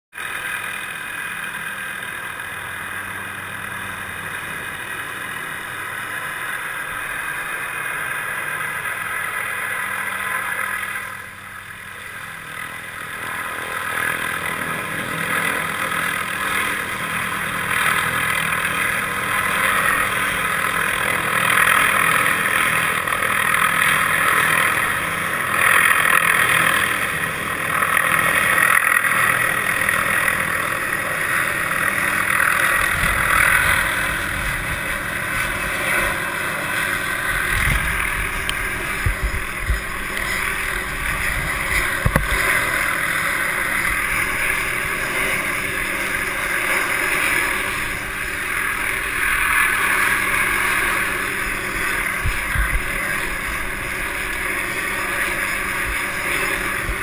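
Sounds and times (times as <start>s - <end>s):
helicopter engine and rotor: 0.1s - 57.0s.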